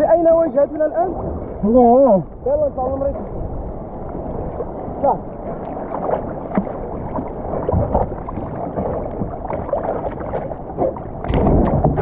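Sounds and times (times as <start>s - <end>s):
water sloshing against hull: 0.0s - 12.0s.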